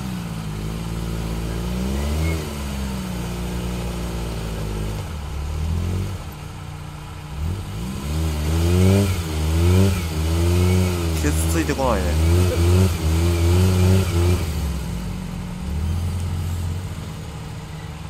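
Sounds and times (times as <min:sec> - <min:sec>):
small car engine revving: 0:00.0 - 0:18.0.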